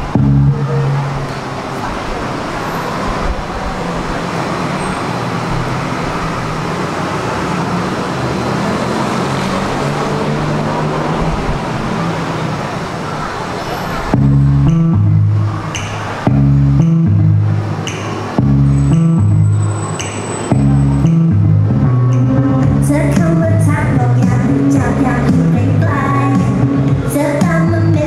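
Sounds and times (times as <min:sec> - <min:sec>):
crowd hubbub: 0:00.0 - 0:28.0.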